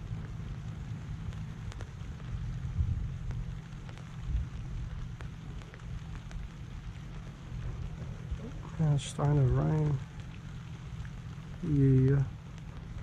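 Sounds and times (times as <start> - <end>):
raindrops ticking: 0.0 - 13.0
steady low rumble: 0.0 - 13.0.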